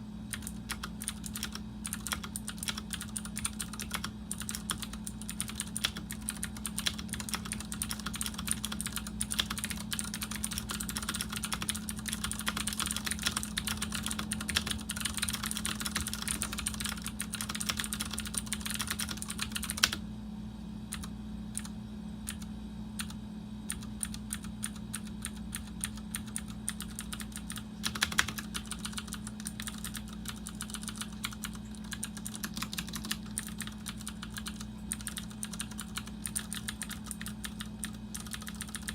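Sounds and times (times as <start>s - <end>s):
mechanical keyboard typing: 0.3s - 20.0s, 20.9s - 21.7s, 22.3s - 38.9s.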